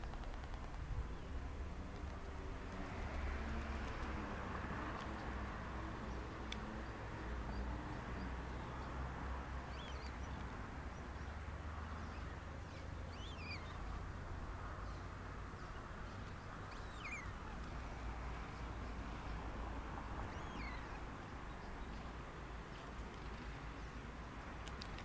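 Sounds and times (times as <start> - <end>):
outdoor background hiss: 0.0 - 25.0.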